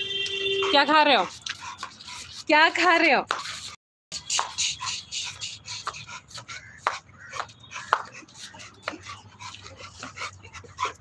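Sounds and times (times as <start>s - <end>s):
dog making sharp clicks and crunches: 0.6s - 2.4s, 3.3s - 11.0s.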